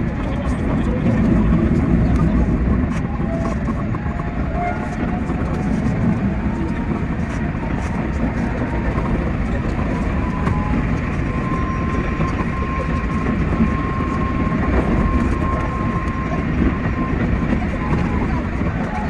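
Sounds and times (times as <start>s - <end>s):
rumble of wheels on rail: 0.0s - 19.0s.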